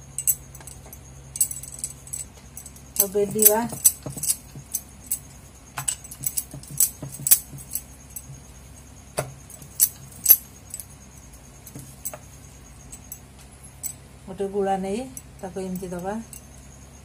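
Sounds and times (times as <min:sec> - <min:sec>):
bangles clinking: 0:00.0 - 0:08.6, 0:09.4 - 0:14.0, 0:15.0 - 0:16.8.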